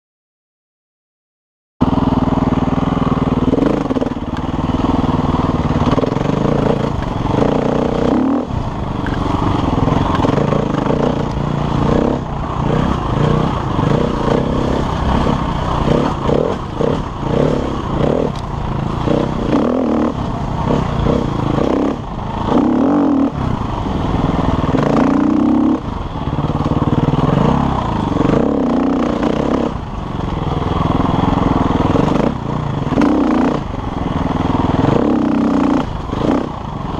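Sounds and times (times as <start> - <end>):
dirt bike engine revving: 1.8 - 36.9.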